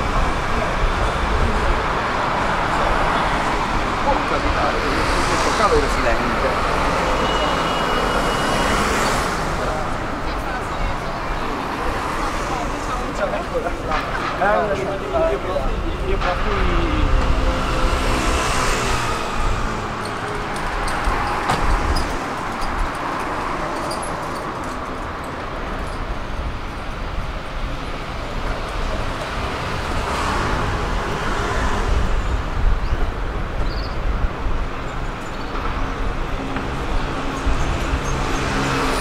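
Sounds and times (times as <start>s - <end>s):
street traffic: 0.0s - 39.0s.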